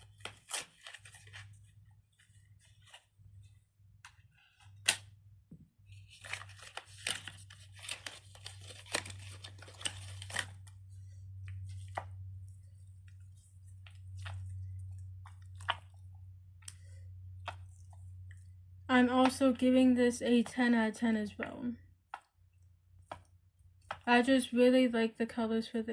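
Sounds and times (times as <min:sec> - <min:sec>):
faint electrical hum: 0:00.0 - 0:25.9.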